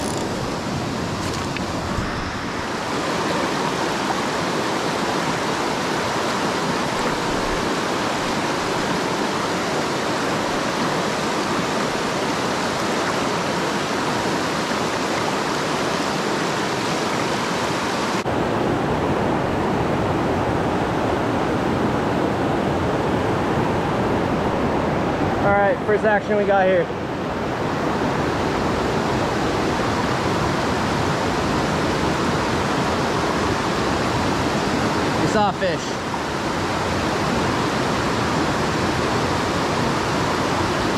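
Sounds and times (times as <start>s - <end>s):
river rushing over boulders: 0.0s - 40.9s.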